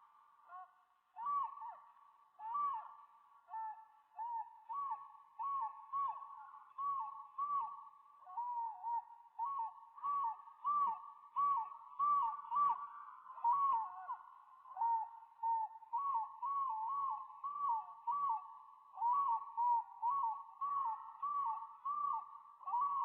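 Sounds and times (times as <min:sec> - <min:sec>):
bird hooting call: 0:04.2 - 0:23.0.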